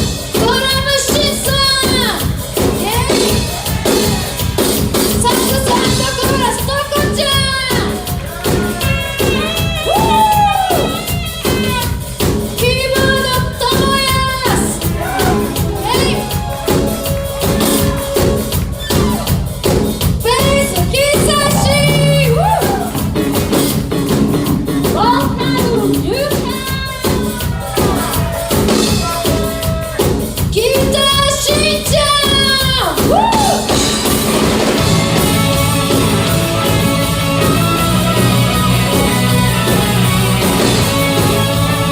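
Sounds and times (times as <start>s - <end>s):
live band playing: 0.0s - 41.9s
steady drum beat: 0.0s - 41.9s.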